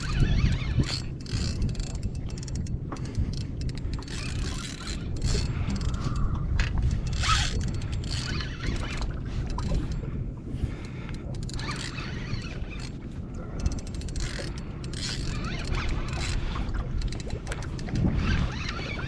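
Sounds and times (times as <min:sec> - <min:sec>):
fishing reel whirring and clicking: 0:00.0 - 0:19.0
low rumble of boat: 0:00.0 - 0:19.0.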